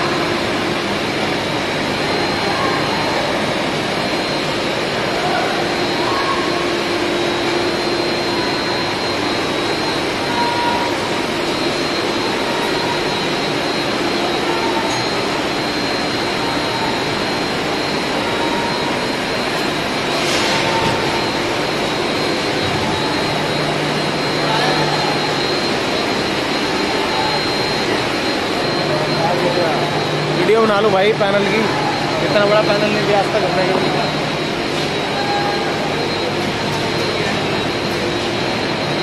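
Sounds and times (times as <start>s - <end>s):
machinery rushing drone: 0.0s - 39.0s
thin high whine: 0.0s - 39.0s.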